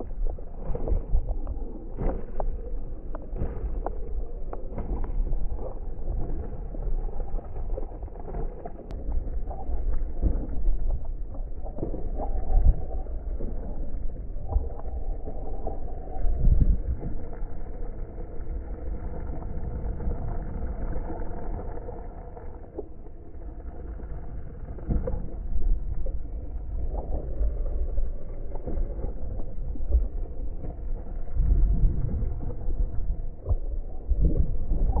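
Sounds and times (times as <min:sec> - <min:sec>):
skate wheels rumbling on dirt: 0:00.0 - 0:35.0.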